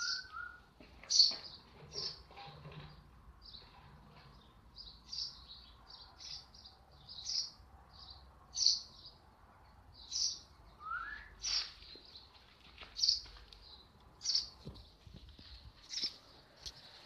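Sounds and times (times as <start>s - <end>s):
baby sparrows chirping: 0.0s - 12.3s, 12.9s - 17.0s.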